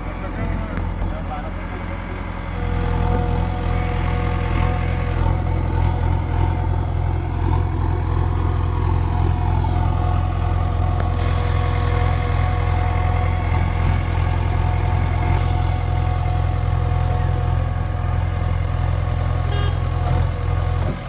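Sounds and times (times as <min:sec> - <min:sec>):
engine whine: 0:00.0 - 0:21.0
heavy diesel engine running: 0:00.0 - 0:21.0.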